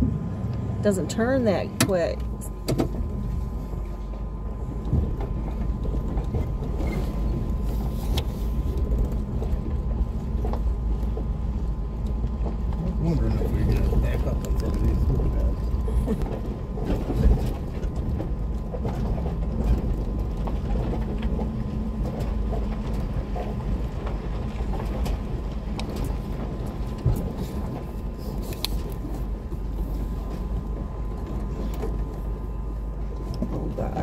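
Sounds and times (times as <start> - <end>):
vehicle rumbling on dirt road: 0.0 - 34.0.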